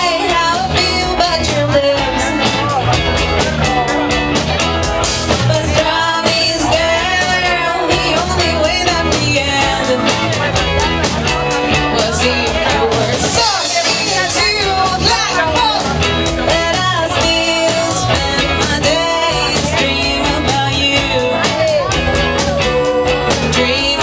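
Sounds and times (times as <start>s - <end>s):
person singing: 0.0s - 24.0s
rock band playing live: 0.0s - 24.0s.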